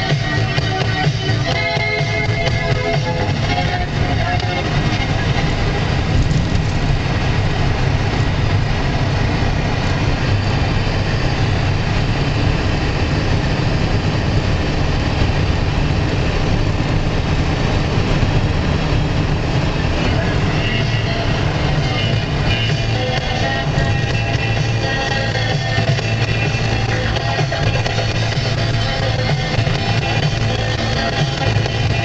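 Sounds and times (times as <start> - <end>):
car engine rumble: 0.0 - 32.0.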